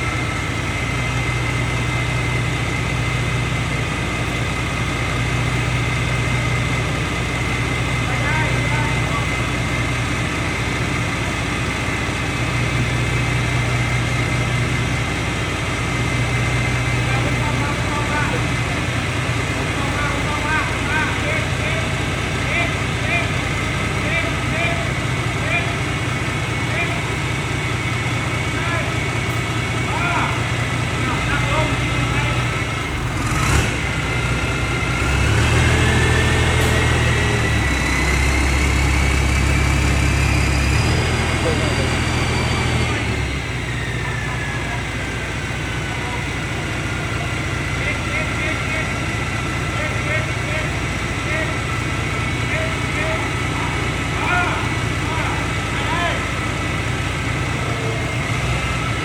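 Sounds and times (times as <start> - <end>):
harvester engine humming: 0.0 - 59.0
high mechanical whine: 0.0 - 59.0.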